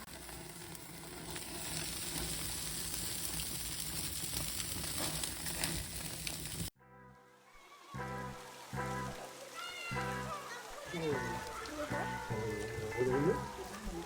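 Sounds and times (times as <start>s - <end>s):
meat sizzling: 0.0s - 6.7s, 7.9s - 14.0s.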